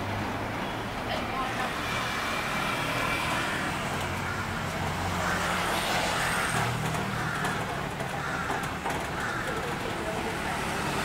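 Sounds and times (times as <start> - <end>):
road traffic engines humming: 0.0 - 11.0.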